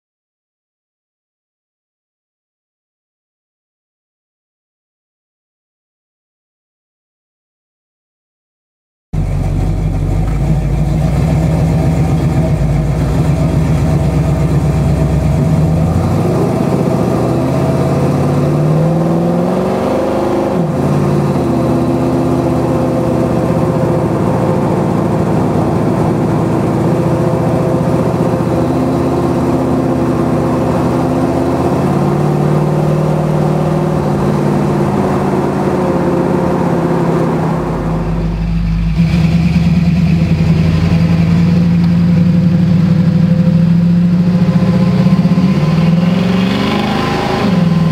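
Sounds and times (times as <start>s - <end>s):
car engine revving: 9.2s - 47.9s.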